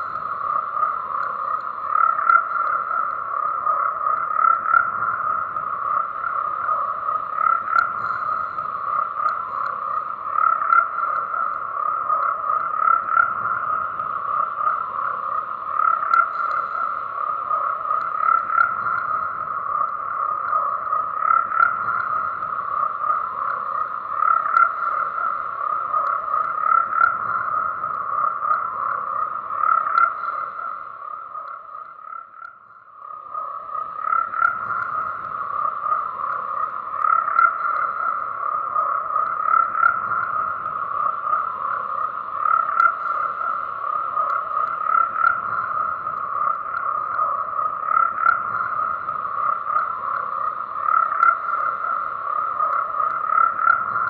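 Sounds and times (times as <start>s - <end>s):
chorus of frogs croaking: 0.0s - 54.0s.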